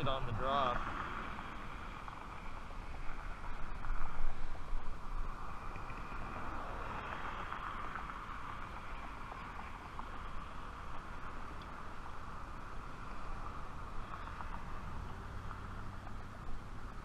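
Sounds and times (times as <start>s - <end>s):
car passing: 0.0s - 17.0s
wind noise on microphone: 0.0s - 17.0s.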